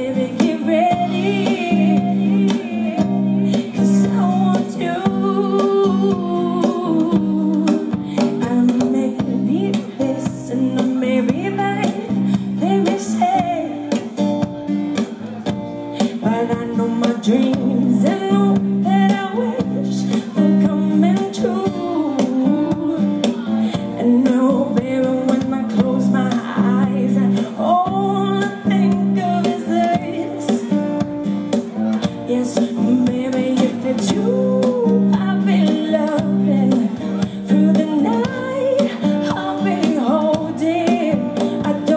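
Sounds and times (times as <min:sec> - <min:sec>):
woman singing: 0:00.0 - 0:14.8, 0:15.8 - 0:41.9
strummed acoustic guitar: 0:00.0 - 0:41.9.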